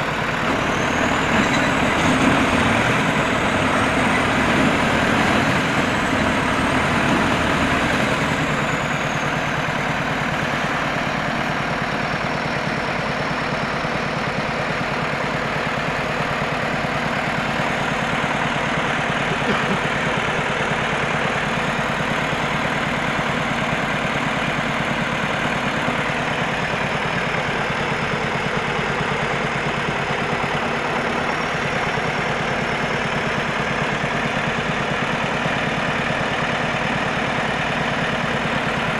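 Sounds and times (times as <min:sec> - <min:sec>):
heavy diesel truck engine: 0:00.0 - 0:38.9.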